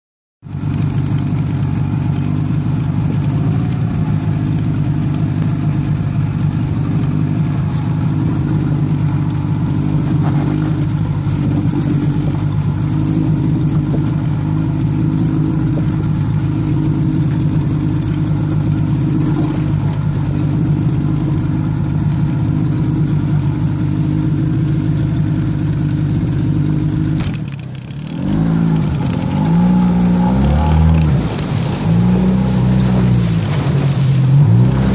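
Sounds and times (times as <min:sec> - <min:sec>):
outboard motor running: 0:00.4 - 0:34.9.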